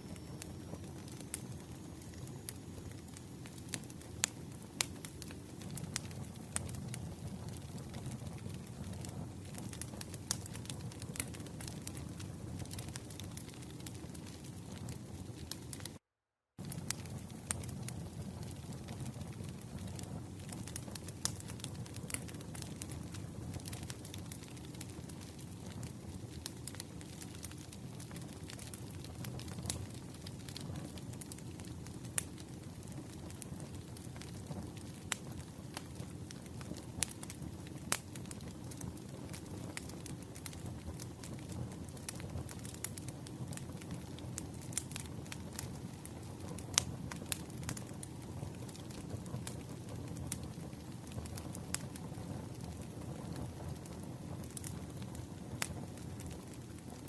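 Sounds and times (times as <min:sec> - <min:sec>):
campfire crackling and popping: 0:00.0 - 0:16.0, 0:16.6 - 0:57.0
fire low rumble: 0:00.0 - 0:16.0, 0:16.6 - 0:57.0.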